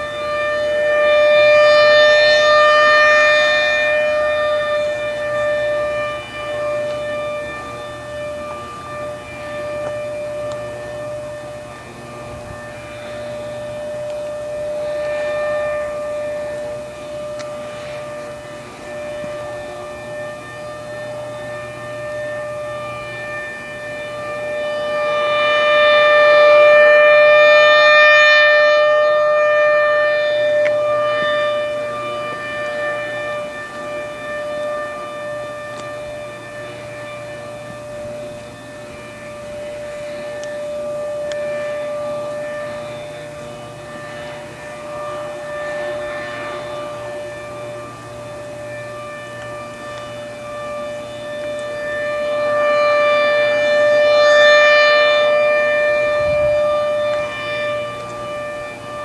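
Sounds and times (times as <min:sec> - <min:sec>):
siren steady tone: 0:00.0 - 0:59.0.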